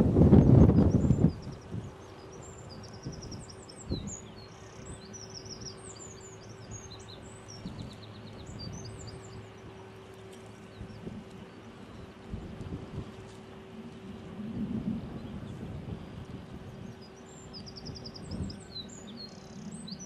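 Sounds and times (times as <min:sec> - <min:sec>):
low hum: 0:00.0 - 0:20.0
low outdoor rumble: 0:00.0 - 0:20.0
small birds chirping: 0:00.4 - 0:14.2, 0:14.8 - 0:20.0.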